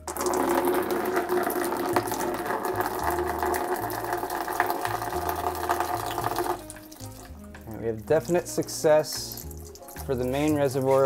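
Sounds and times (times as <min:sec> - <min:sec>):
water pouring into plastic bucket: 0:00.0 - 0:11.0.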